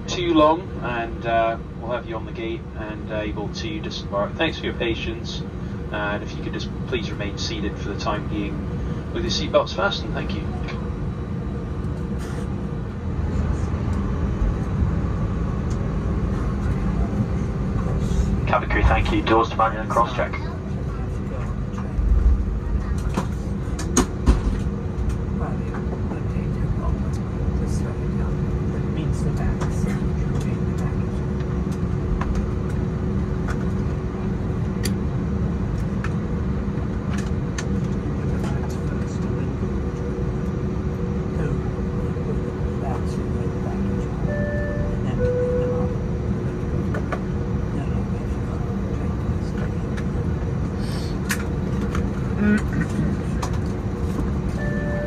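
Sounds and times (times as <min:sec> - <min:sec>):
aircraft cabin engine rumble: 0:00.0 - 0:55.0.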